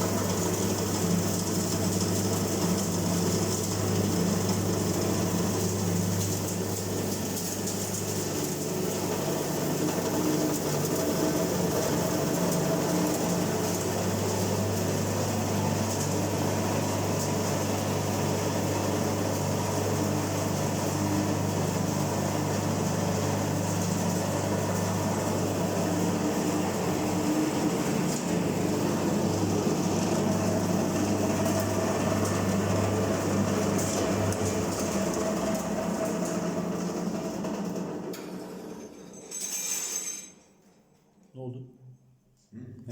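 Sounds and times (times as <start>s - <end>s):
chopping machine humming: 0.0s - 38.6s.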